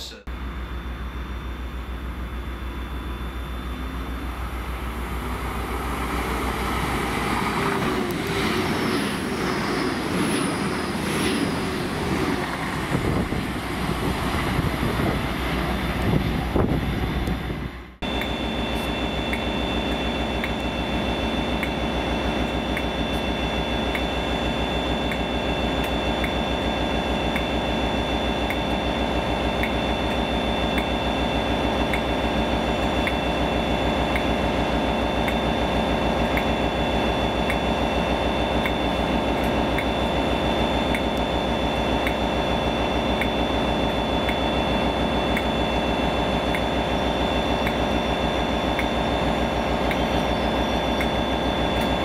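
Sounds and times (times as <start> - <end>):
diesel locomotive engine: 0.0 - 52.0
high steady whine: 0.0 - 52.0
train passing: 2.0 - 52.0.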